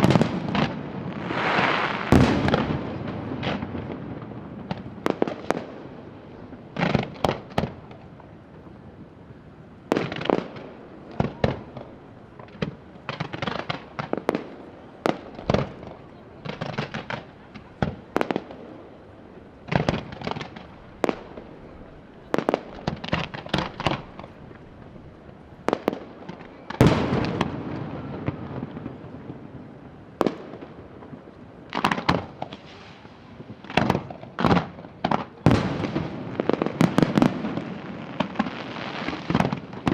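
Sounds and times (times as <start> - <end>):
fireworks bangs: 0.0 - 7.9, 9.9 - 18.9, 19.6 - 25.0, 25.6 - 39.9
fireworks crackle: 0.0 - 9.1, 9.8 - 39.9.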